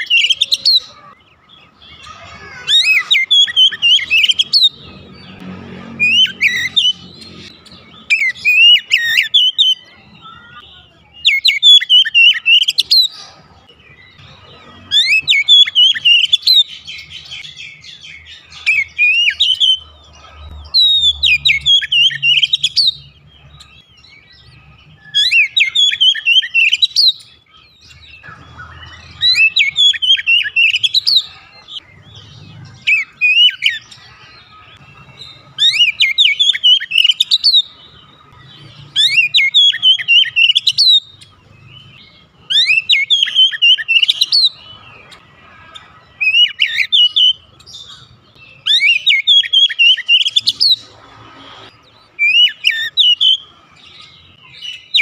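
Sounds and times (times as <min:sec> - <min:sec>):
bird singing whistled notes: 0:00.0 - 0:05.3, 0:06.1 - 0:13.2, 0:13.8 - 0:19.9, 0:20.7 - 0:45.2, 0:46.2 - 0:55.0.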